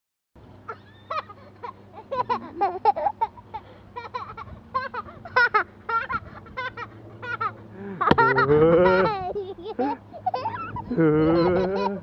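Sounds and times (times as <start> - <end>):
toddler giggling: 0.7 - 12.0.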